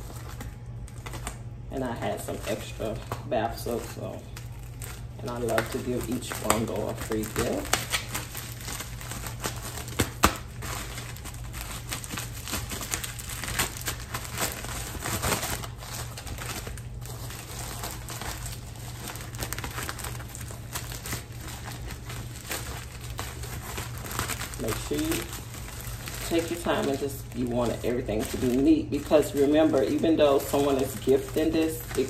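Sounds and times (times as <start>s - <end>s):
wrapping paper crinkling: 0.0s - 32.0s.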